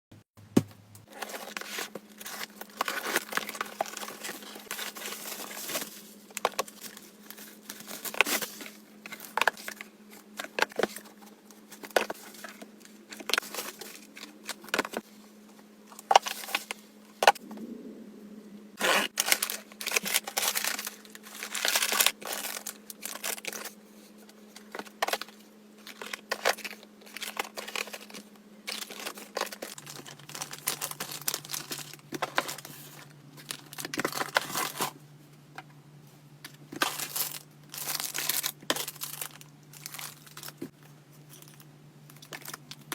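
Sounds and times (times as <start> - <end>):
faint low hum: 0.4 - 42.9
packaging crinkling and tearing: 1.0 - 15.0, 18.8 - 23.8, 24.6 - 35.0, 36.7 - 42.9.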